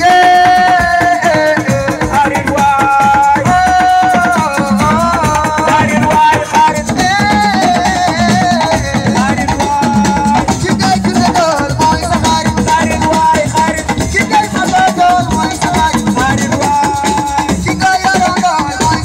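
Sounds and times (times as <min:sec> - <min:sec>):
busy drumming: 0:00.0 - 0:19.0.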